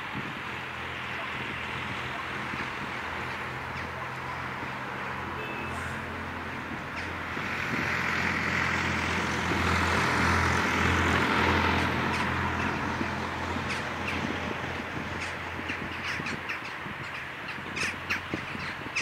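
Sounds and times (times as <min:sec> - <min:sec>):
motor vehicle passing: 0:00.2 - 0:19.0.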